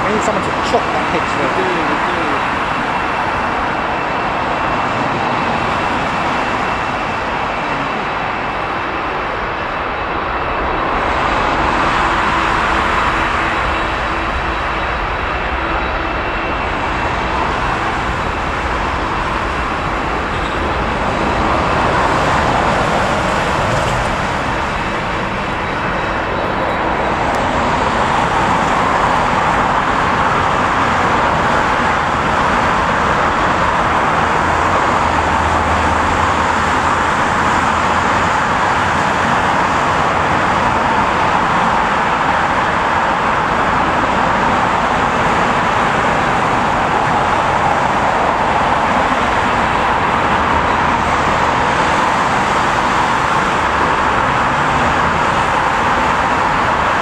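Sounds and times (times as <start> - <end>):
jet airliner taking off: 0.0 - 57.0.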